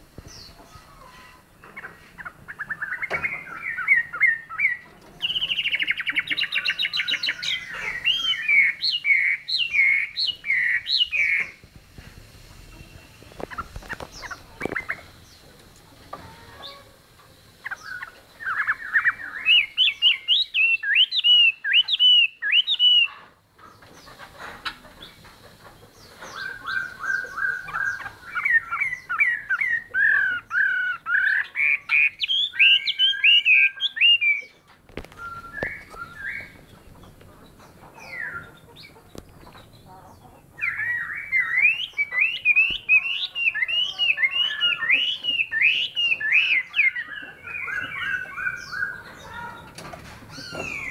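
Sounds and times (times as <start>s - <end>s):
bird singing: 0.0s - 11.6s, 17.6s - 50.9s.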